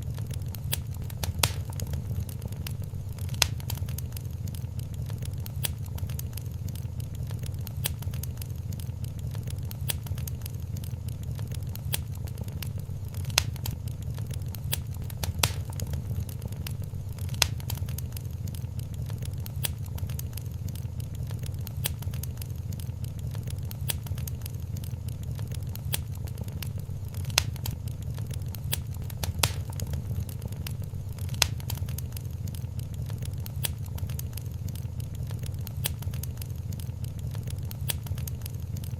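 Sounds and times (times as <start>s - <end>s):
low fire rumble: 0.0s - 38.9s
sharp fire pops: 0.0s - 38.9s
wood fire crackling: 0.0s - 38.9s.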